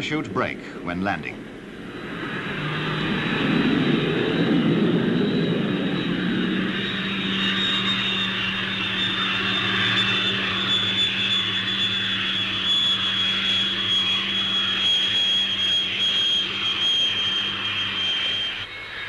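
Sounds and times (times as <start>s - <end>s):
jet engine whine: 0.0s - 19.0s
low hum: 0.0s - 19.0s.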